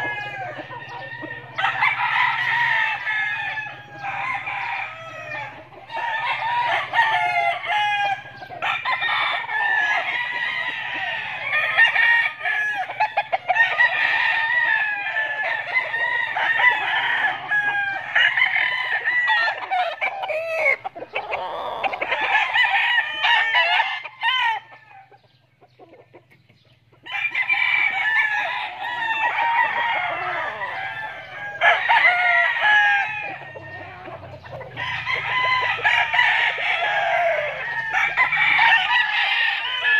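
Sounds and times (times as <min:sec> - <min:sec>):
roosters crowing: 0:00.0 - 0:39.9.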